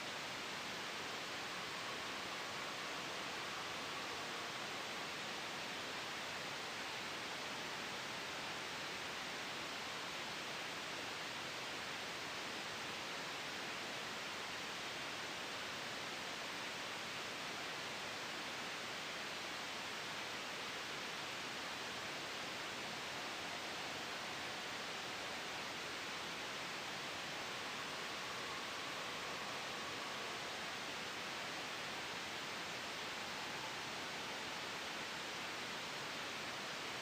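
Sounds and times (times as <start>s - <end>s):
white noise hiss: 0.0s - 37.0s.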